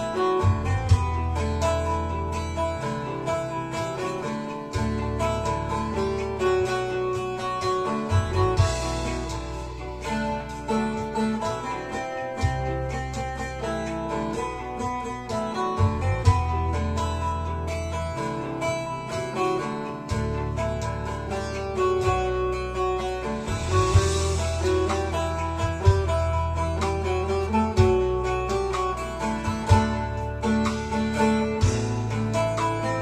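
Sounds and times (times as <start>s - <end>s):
plucked long-necked lute melody: 0.0s - 33.0s.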